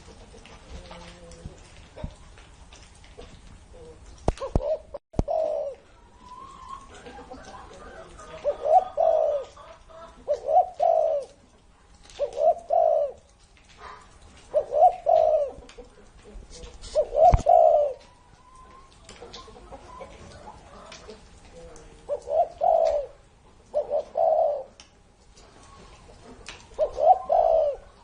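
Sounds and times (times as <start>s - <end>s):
dove cooing: 0.0s - 2.2s, 3.2s - 24.8s, 25.4s - 28.0s.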